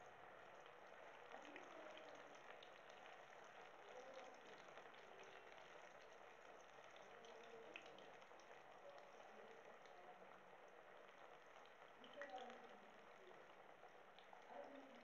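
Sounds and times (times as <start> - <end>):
deep-frying sizzle with crackles: 0.0 - 15.0.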